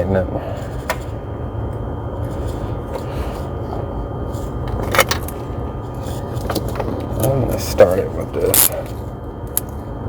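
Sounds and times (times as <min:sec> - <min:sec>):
low rumble of machinery: 0:00.0 - 0:10.0.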